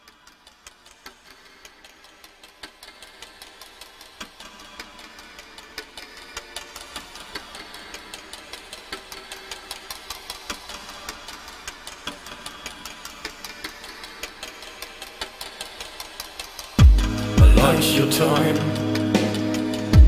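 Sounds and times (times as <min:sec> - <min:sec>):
dry clicking rhythm: 0:00.0 - 0:20.0.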